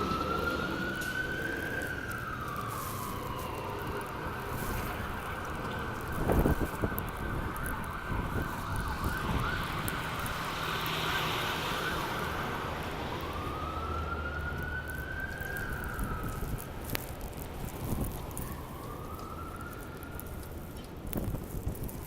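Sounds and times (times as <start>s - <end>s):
city street noise: 0.0s - 22.0s
emergency vehicle siren: 0.0s - 22.0s.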